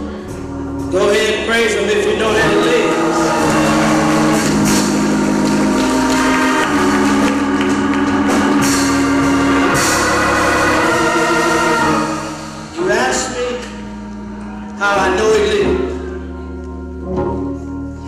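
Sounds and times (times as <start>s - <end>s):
organ sustained chords: 0.0s - 18.0s.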